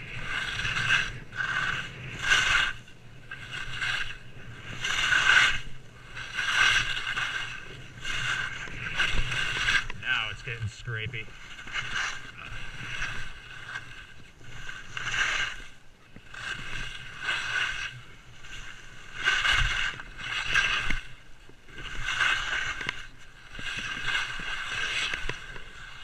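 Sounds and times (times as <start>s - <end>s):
skis swishing through snow: 0.0s - 26.0s.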